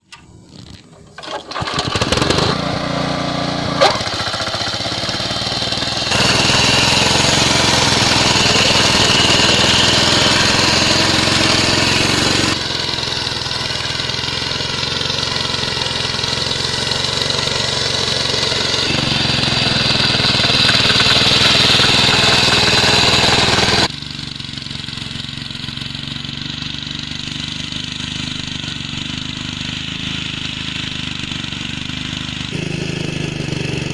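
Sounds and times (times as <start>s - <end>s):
cultivator engine running: 0.0s - 33.9s.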